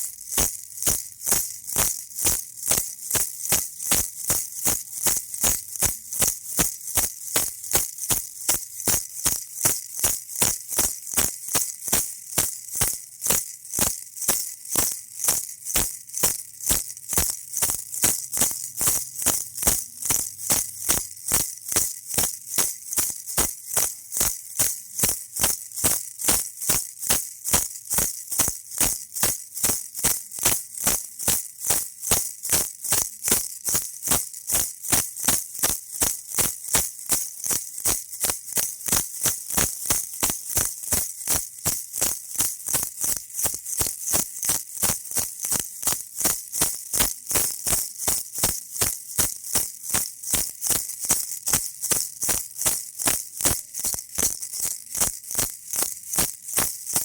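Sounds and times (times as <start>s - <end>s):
baby toy rattle shaken: 0.0s - 57.0s.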